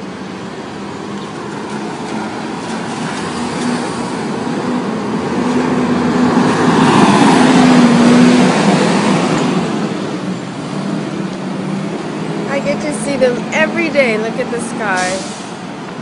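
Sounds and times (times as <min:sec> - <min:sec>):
city street traffic: 0:00.0 - 0:16.0
motor vehicle passing close: 0:01.3 - 0:15.6.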